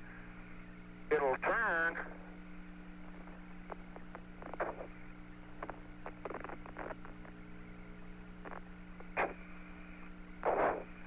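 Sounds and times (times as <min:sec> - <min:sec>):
radio link hum: 0:00.0 - 0:11.0
static bursts: 0:01.1 - 0:11.0.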